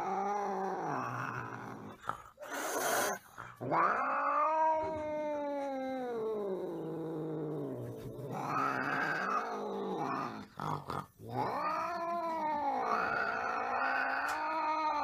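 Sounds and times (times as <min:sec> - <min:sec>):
cat growling and yowling: 0:00.0 - 0:15.0.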